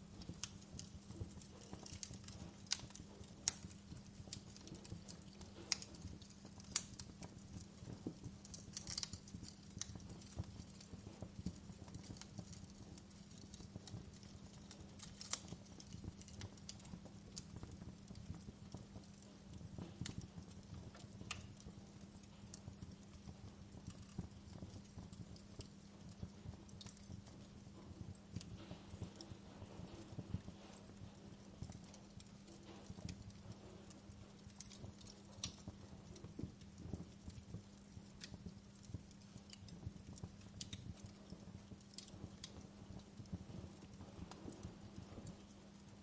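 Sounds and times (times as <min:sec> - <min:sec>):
low steady hum: 0:00.0 - 0:46.0
wood fire crackling: 0:00.0 - 0:46.0.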